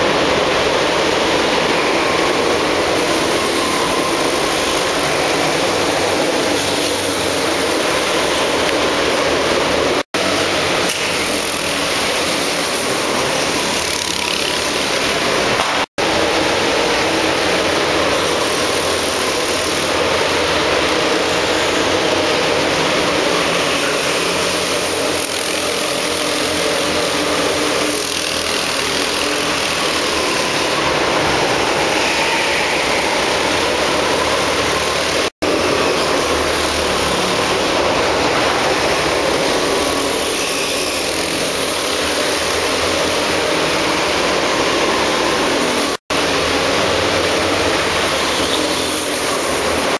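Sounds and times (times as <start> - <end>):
go-kart engines running: 0.0 - 49.9.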